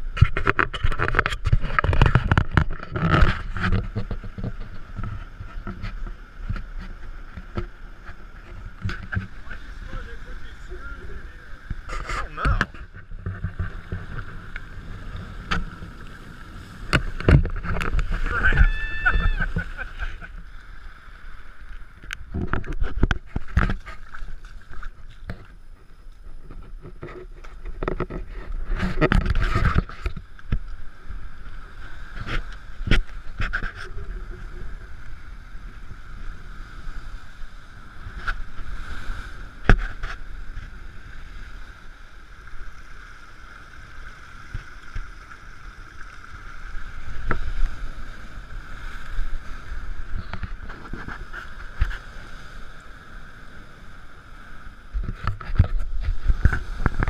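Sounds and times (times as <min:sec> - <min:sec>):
surf breaking over rocks: 0:00.0 - 0:57.0
wind on microphone: 0:00.0 - 0:57.0.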